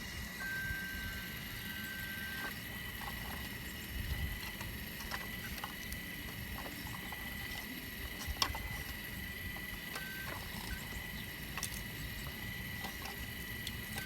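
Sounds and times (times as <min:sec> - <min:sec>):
digging machine rumble and whine: 0:00.0 - 0:14.0.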